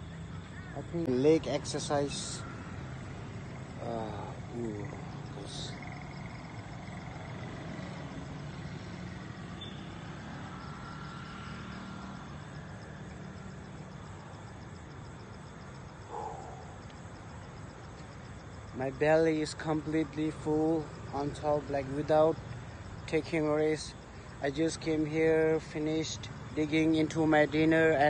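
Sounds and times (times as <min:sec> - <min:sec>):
night insects trilling: 0:00.0 - 0:28.0
road traffic rumble: 0:00.0 - 0:28.0.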